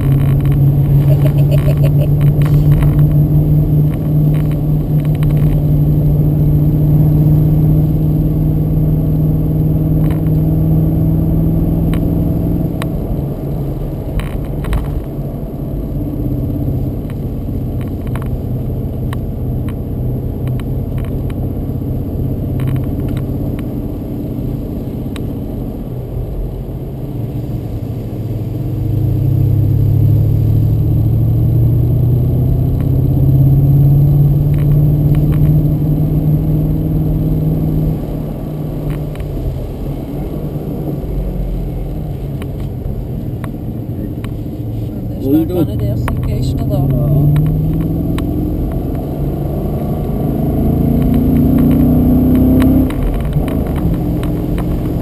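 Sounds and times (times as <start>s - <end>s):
car engine running from inside: 0.0s - 55.0s.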